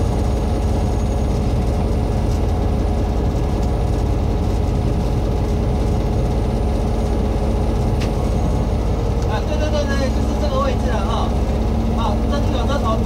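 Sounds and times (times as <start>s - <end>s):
locomotive engine drone: 0.0s - 13.0s.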